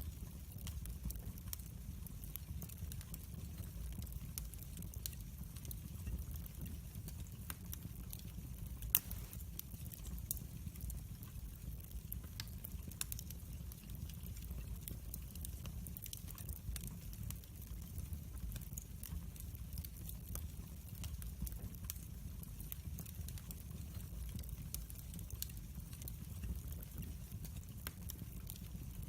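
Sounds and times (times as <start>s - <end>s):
log fire crackling: 0.0s - 29.0s.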